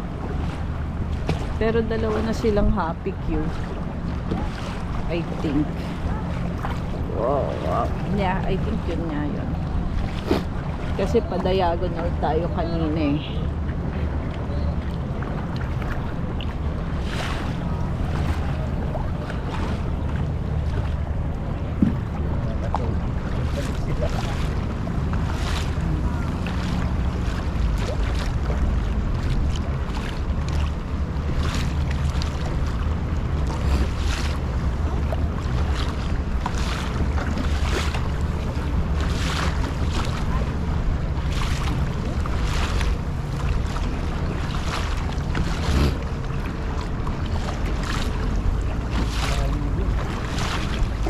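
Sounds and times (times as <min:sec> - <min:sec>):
paddle splashing in water: 0:00.0 - 0:51.0
wind rumble on microphone: 0:00.0 - 0:51.0.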